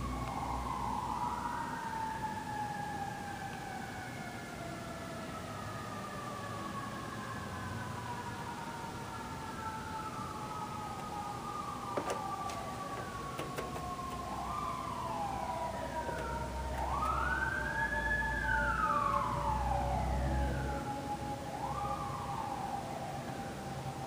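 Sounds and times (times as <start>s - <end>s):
sirens wailing: 0.0s - 24.0s.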